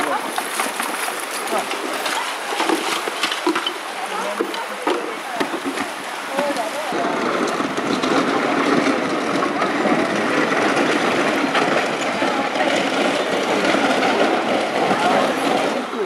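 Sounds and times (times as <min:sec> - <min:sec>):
cart wheels rolling on gravel: 0:00.0 - 0:16.0.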